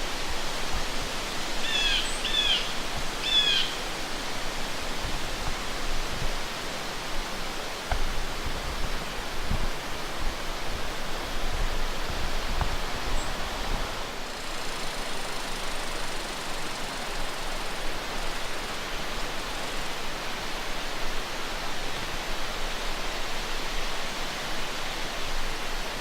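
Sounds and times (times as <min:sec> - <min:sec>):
outdoor hiss: 0:00.0 - 0:26.0.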